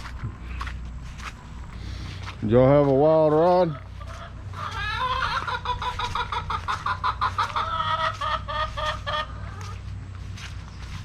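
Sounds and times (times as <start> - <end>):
chickens clucking: 0.1 - 11.0.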